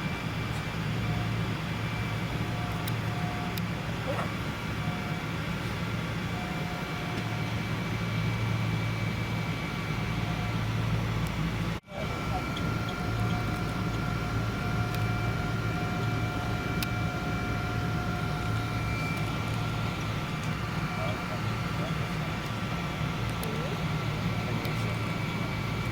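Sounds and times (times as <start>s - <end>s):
airliner cabin hum and hiss: 0.0s - 25.9s
steady whining tones: 0.0s - 25.9s.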